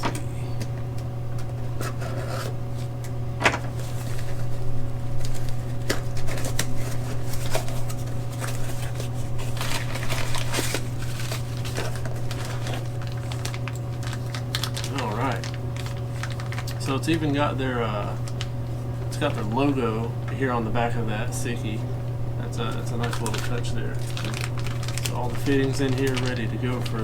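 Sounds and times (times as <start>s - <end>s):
steady low hum: 0.0s - 27.0s
packaging rustling: 1.4s - 19.8s, 22.6s - 27.0s.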